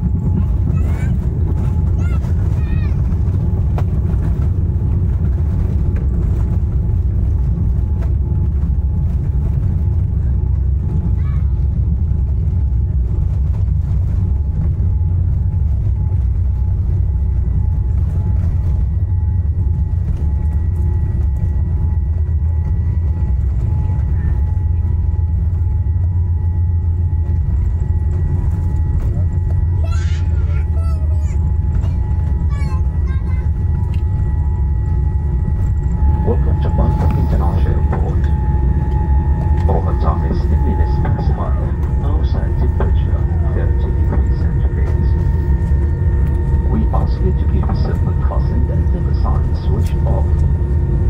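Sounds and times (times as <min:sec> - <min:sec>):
faint steady whines: 0:00.0 - 0:51.0
vehicle rumble inside cabin: 0:00.0 - 0:51.0.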